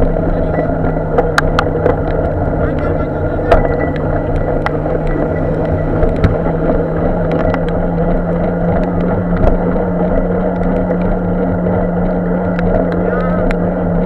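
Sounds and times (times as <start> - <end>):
bicycle road and wind noise: 0.0 - 14.0
low hum: 0.0 - 14.0.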